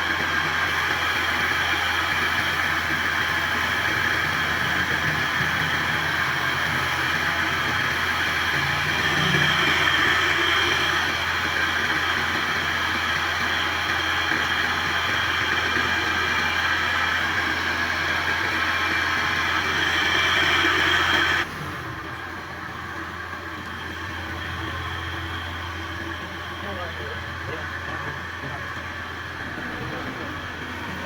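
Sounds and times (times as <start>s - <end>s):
machine humming: 0.0s - 31.0s.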